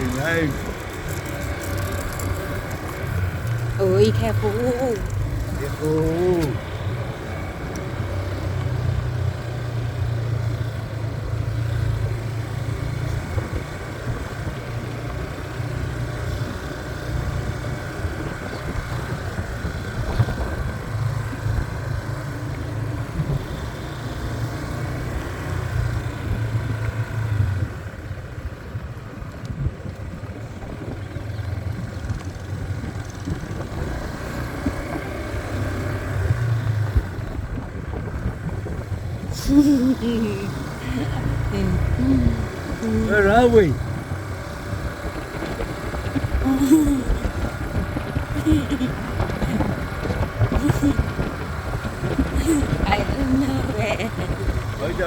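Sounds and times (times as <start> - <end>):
motorbike engine running: 0.0 - 55.0.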